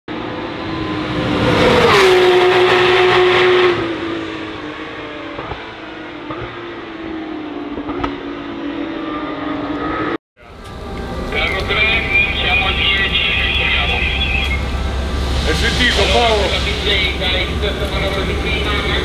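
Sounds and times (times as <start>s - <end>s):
race car engine passing: 0.1s - 10.2s, 11.1s - 19.0s.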